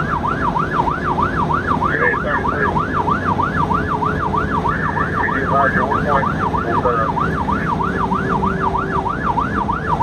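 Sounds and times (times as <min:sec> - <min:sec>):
siren yelping: 0:00.0 - 0:10.0
vehicle engine and tyres rumbling: 0:00.0 - 0:10.0.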